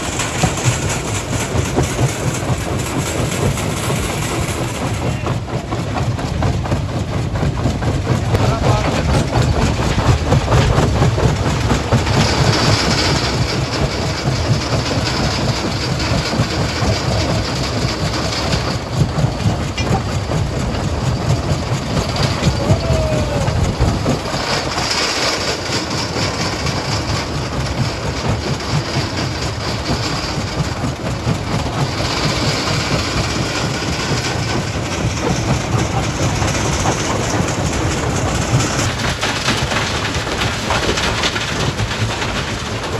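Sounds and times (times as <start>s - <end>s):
low machinery rumble: 0.0s - 42.9s
rock crusher clattering: 0.0s - 42.9s.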